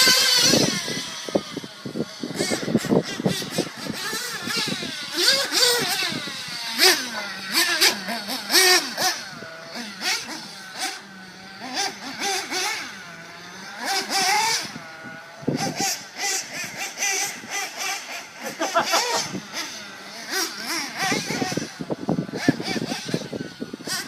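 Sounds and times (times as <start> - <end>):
rc car motors revving: 0.0 - 24.0.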